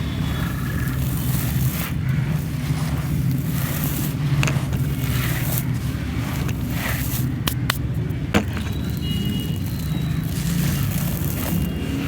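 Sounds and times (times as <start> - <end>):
dry lumps crushed by hand: 0.0 - 12.0.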